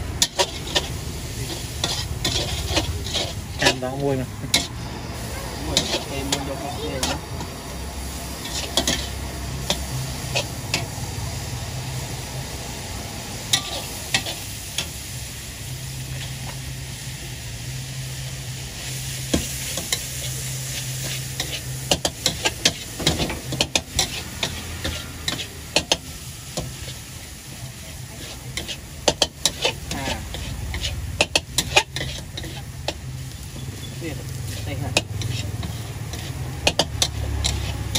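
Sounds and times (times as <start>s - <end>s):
metal spatula scraping wok: 0.0s - 12.0s, 13.3s - 37.9s
stir-fry sizzling in a wok: 0.0s - 37.9s.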